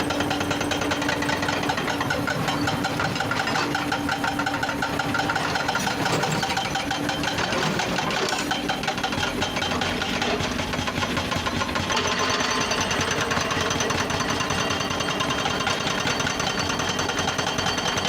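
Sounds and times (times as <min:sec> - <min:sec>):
diesel engine clattering: 0:00.0 - 0:18.0.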